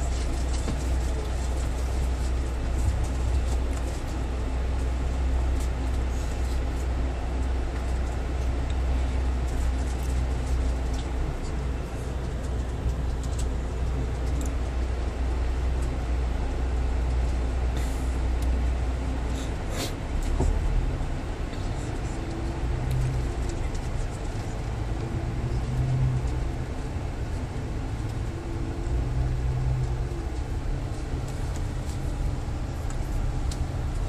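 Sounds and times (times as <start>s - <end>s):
diesel bus engine drone: 0.0s - 34.0s.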